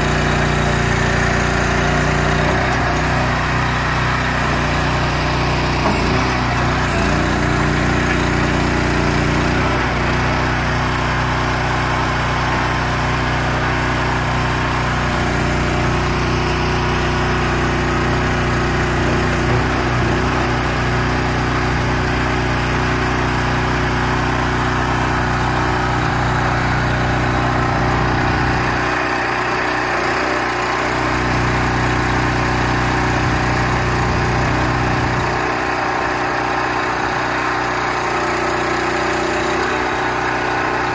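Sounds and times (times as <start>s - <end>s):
small engine humming steadily: 0.0s - 40.9s.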